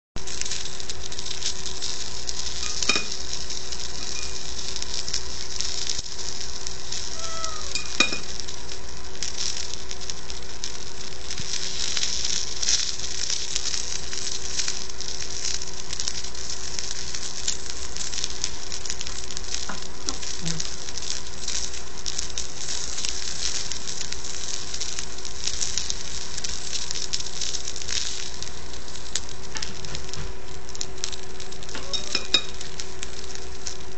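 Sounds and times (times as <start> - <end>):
food sizzling on hot plate: 0.2 - 33.9.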